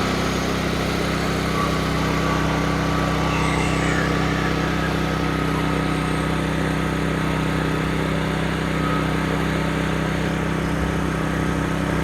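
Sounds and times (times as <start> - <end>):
generator engine humming: 0.0 - 12.0.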